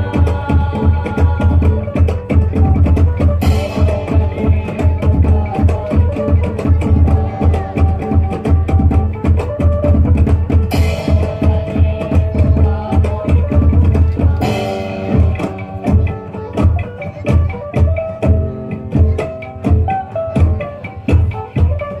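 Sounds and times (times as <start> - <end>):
drum and percussion music: 0.0 - 22.0.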